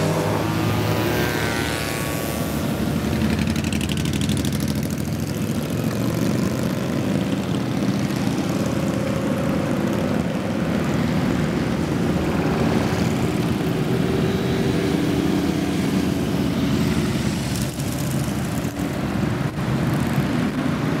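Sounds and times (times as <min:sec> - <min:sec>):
group of motorcycles riding past: 0:00.0 - 0:21.0.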